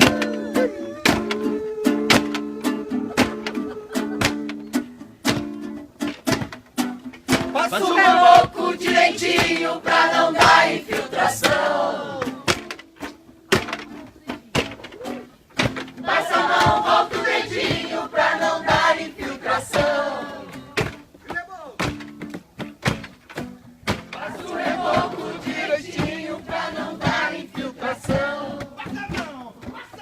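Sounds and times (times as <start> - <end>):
voices singing: 0.0 - 4.8, 7.3 - 21.5, 23.9 - 30.0
strummed acoustic guitar: 0.0 - 30.0.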